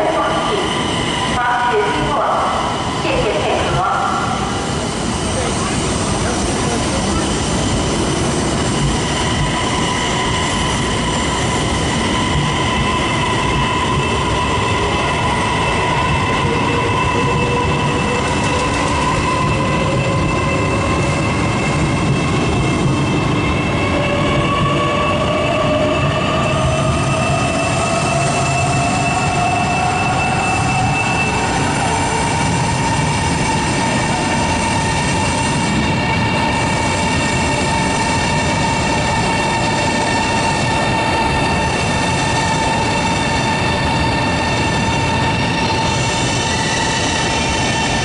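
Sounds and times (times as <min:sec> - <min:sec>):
train rolling rumble: 0:00.0 - 0:48.0.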